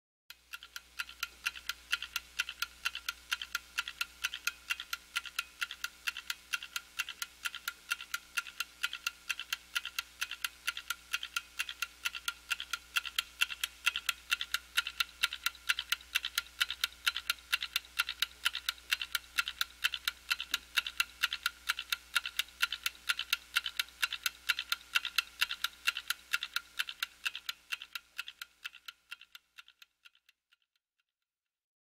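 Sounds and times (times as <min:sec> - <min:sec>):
small clock ticking: 0:00.3 - 0:31.2.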